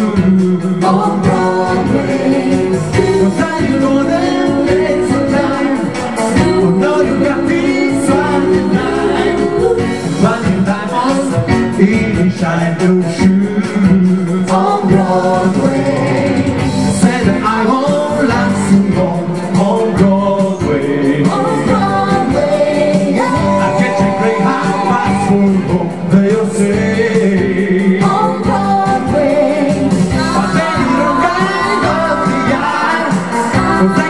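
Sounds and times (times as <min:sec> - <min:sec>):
pop band music with singing: 0:00.0 - 0:34.0.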